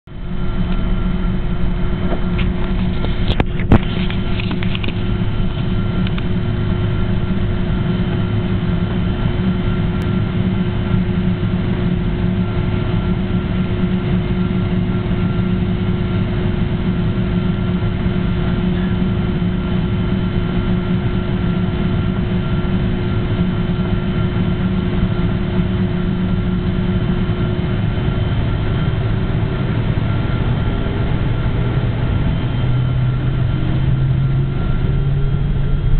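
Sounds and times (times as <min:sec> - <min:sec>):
jet engine cabin drone: 0:00.1 - 0:35.9.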